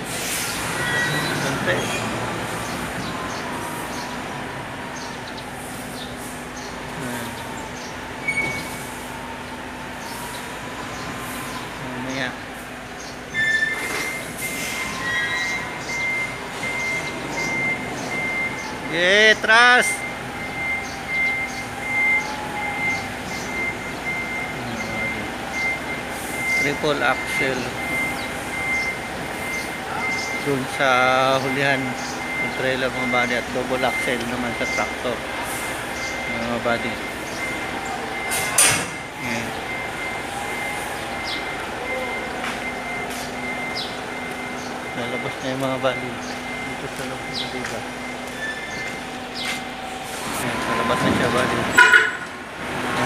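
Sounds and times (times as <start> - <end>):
diesel engine running: 0.0 - 53.0
truck reversing alarm beeping: 0.0 - 53.0.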